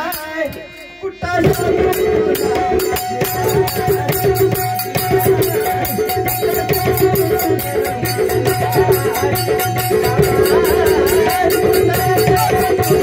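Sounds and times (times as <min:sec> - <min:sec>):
hand drums: 0:00.0 - 0:13.0
jingling percussion: 0:00.0 - 0:13.0.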